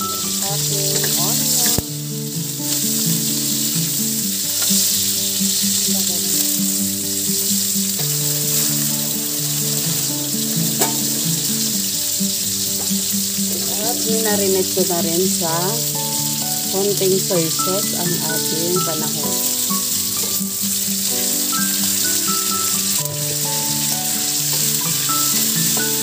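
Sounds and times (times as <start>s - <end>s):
onions sizzling in hot oil: 0.0s - 26.0s
soft background music: 0.0s - 26.0s.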